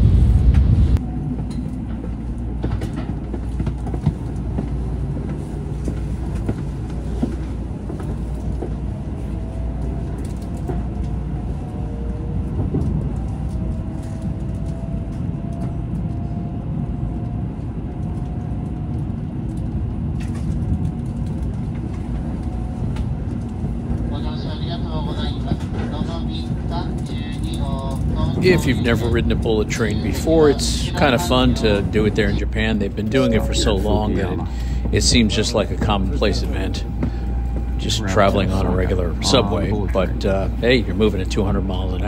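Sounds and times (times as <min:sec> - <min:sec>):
train cabin rumble: 0:00.0 - 0:42.0.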